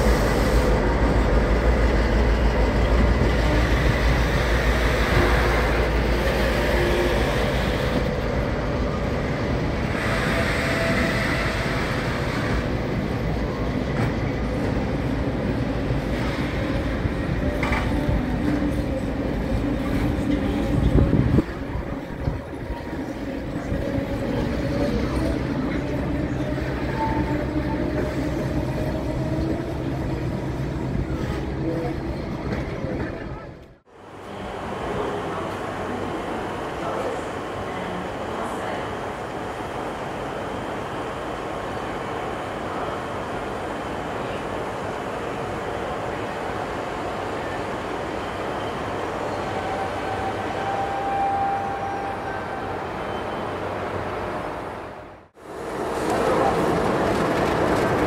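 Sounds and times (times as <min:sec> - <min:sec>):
train wheels rumbling on track: 0:00.0 - 0:52.8, 0:53.6 - 0:58.0.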